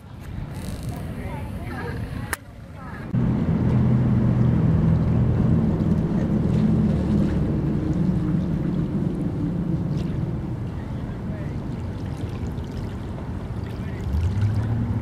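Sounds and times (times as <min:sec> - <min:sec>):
boat engine humming: 0:00.0 - 0:15.0
light water wash: 0:00.0 - 0:15.0.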